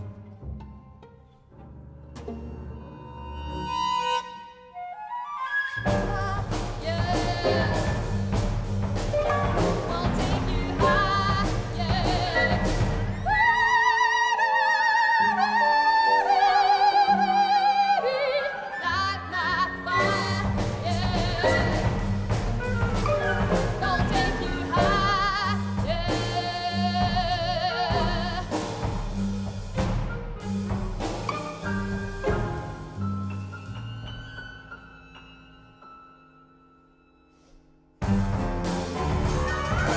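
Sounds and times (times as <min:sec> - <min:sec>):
chamber ensemble music: 0:00.0 - 0:39.9.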